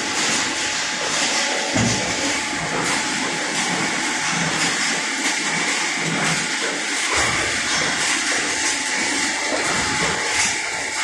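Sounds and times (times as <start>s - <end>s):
factory machinery din: 0.0s - 11.0s.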